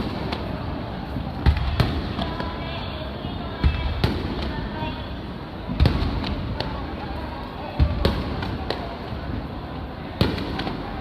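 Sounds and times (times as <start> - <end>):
fireworks booming and cracking: 0.0 - 11.0
steady background noise: 0.0 - 11.0.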